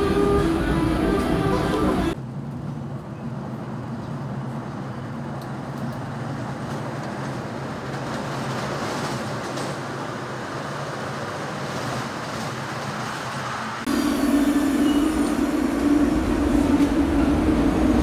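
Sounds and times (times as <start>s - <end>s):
wheels rumbling on rail: 0.0s - 18.0s.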